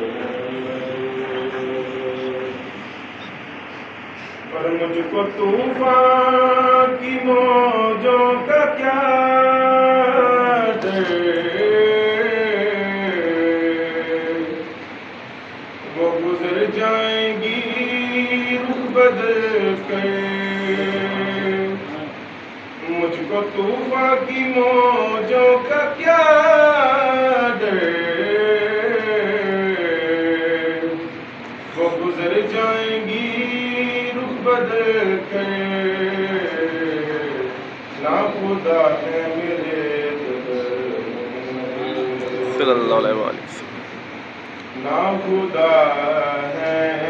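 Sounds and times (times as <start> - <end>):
man singing unaccompanied: 0.0 - 2.8, 4.5 - 14.8, 15.8 - 43.7, 44.7 - 47.0
man chanting melodically: 0.0 - 3.0, 4.4 - 14.8, 15.8 - 43.8, 44.7 - 47.0.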